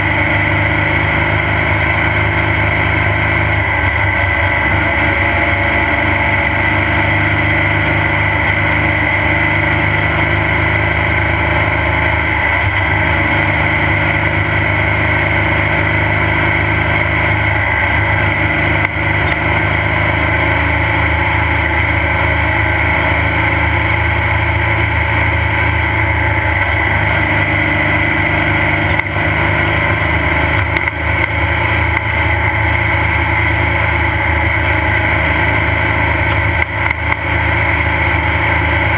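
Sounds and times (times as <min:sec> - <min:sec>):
engine running loud and steady: 0:00.0 - 0:38.9.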